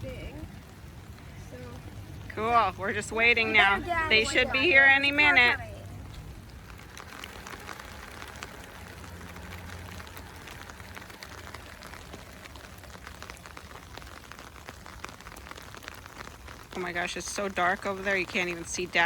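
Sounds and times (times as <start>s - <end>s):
low steady hum: 0.0s - 15.3s
rain falling: 0.0s - 19.0s.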